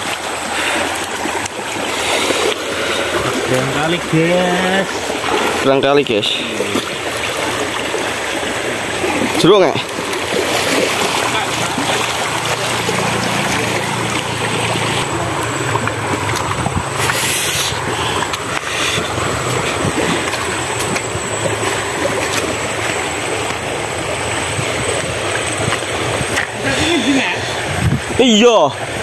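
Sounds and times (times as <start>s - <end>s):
footsteps on river cobbles: 0.0s - 27.1s
river rushing over stones: 0.0s - 29.0s.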